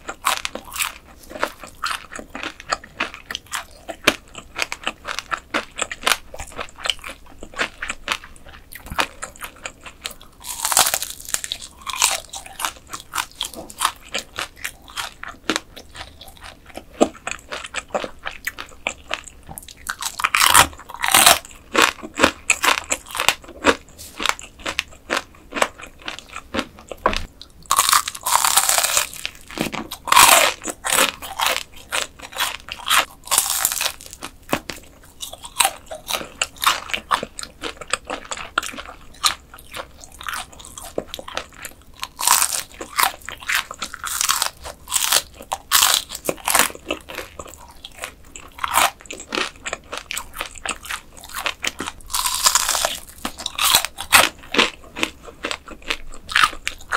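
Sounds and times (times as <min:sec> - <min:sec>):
crunching and chewing: 0:00.0 - 0:56.9.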